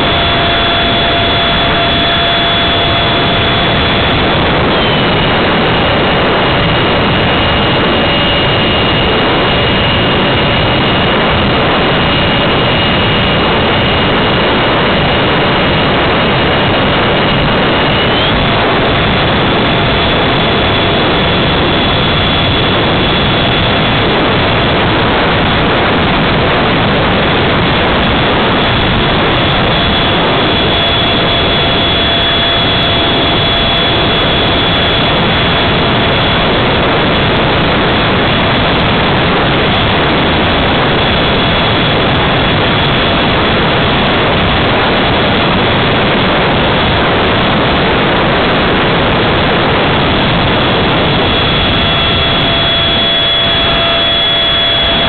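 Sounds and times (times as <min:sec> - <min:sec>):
electric fan high whine: 0:00.0 - 0:55.0
rushing air: 0:00.0 - 0:55.0.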